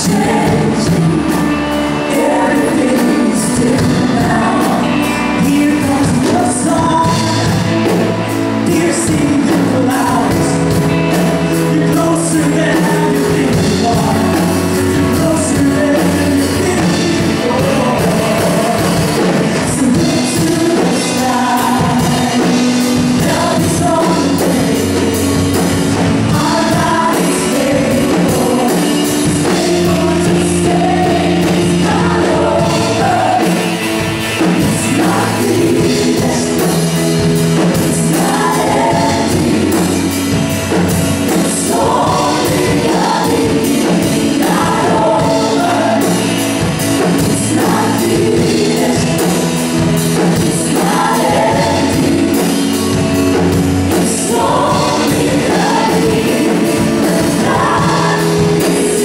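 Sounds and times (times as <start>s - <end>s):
backing singers: 0.0s - 59.0s
drums: 0.0s - 59.0s
electric guitar: 0.0s - 59.0s
man singing lead vocals: 0.0s - 59.0s.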